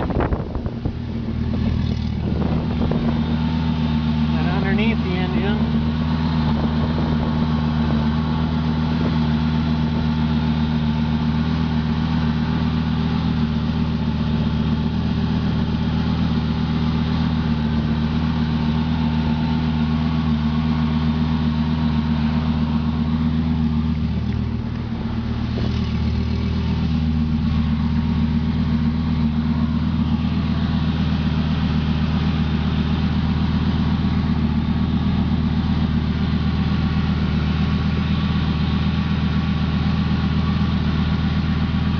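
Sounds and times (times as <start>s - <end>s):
sports car engine idling: 0.0s - 41.9s.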